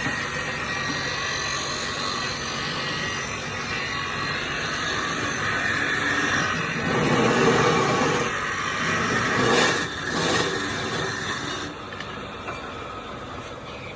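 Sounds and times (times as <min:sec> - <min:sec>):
wood lathe scraping: 0:00.0 - 0:11.7.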